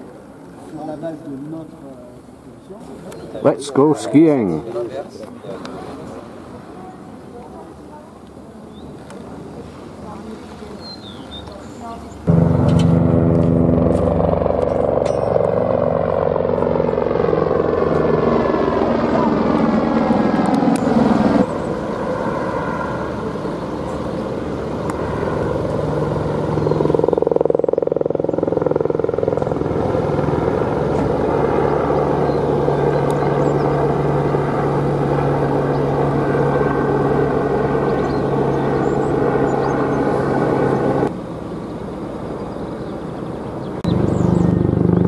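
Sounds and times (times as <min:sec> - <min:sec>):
helicopter flying overhead: 0:00.0 - 0:10.2, 0:11.4 - 0:45.0.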